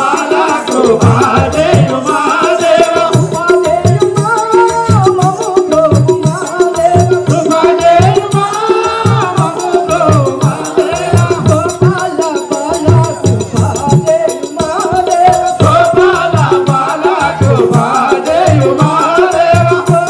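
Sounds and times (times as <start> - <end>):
steady drum beat: 0.0 - 20.0.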